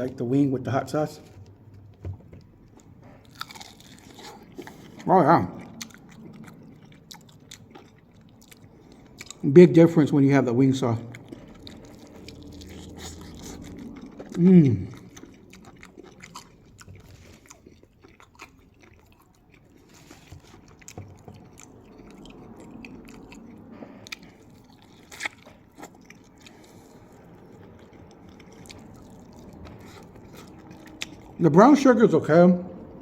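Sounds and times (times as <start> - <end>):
chewing crispy chicken wings: 2.6 - 31.8.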